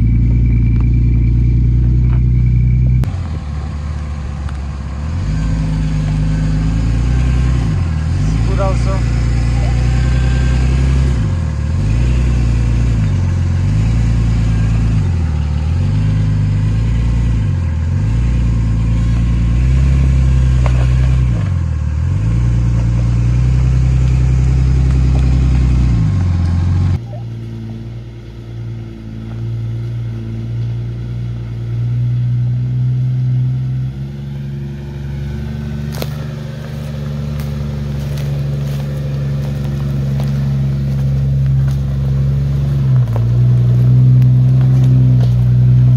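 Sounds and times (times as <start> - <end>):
off-road vehicle engine crawling: 0.0 - 45.9.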